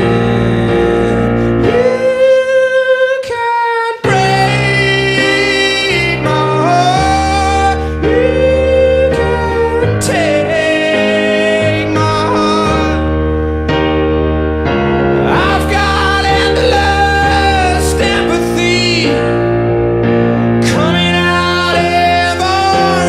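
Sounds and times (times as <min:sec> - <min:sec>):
electric keyboard chords: 0:00.0 - 0:03.0, 0:04.0 - 0:23.0
man singing long notes: 0:00.0 - 0:13.2, 0:15.2 - 0:19.5, 0:20.6 - 0:23.0.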